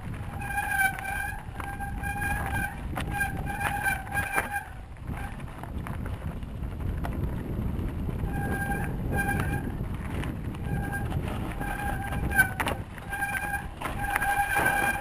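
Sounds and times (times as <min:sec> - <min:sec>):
brakes squealing: 0:00.0 - 0:06.0, 0:08.0 - 0:15.0
bicycle tyres rumbling on rocks: 0:00.0 - 0:15.0
wind on microphone: 0:00.0 - 0:15.0.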